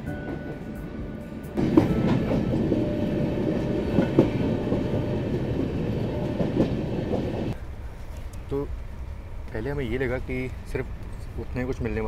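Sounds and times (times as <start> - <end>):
wheels rumbling on rails: 1.4 - 12.0.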